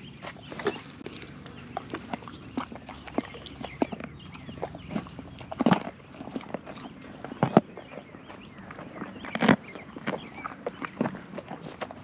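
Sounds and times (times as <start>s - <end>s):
small bird calling: 0.0s - 11.0s
horse chewing a carrot: 0.0s - 12.0s.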